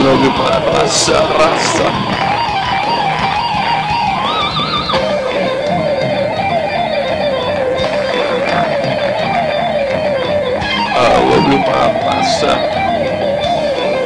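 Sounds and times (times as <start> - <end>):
electric guitar lead melody: 0.0 - 14.0.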